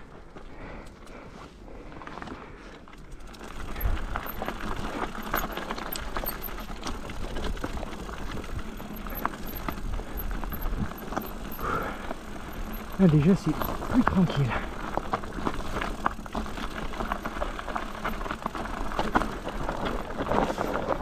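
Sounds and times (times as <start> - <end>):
bike clicks and rattles: 0.0 - 21.0
tyres crunching on stones: 3.3 - 21.0.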